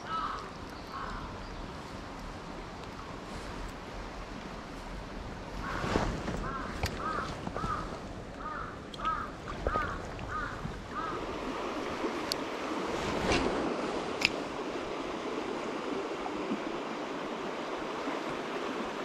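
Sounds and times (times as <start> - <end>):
shallow stream rushing: 0.0 - 19.0.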